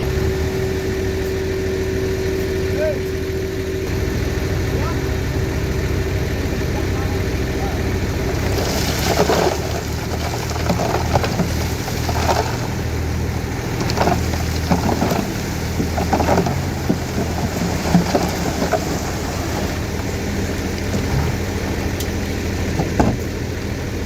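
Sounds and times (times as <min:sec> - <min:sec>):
dump truck engine running: 0:00.0 - 0:24.0
rattling and crunching: 0:00.0 - 0:24.0.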